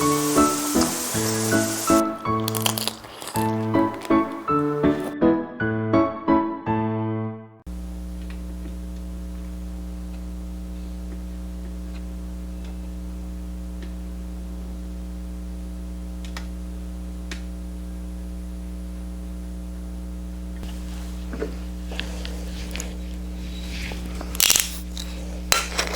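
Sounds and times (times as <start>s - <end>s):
electrical mains hum: 0.0s - 5.1s, 7.7s - 25.9s.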